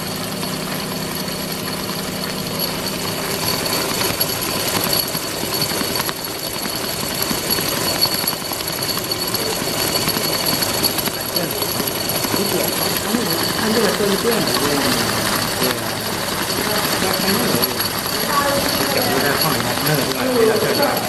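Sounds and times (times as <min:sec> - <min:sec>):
machinery with high-pitched whine: 0:00.0 - 0:21.0.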